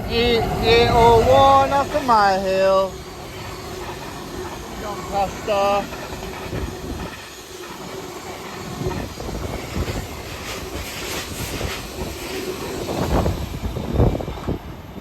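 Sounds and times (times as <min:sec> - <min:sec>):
wagons clattering over rails: 0:00.0 - 0:12.2
diesel freight train passing: 0:00.0 - 0:15.0.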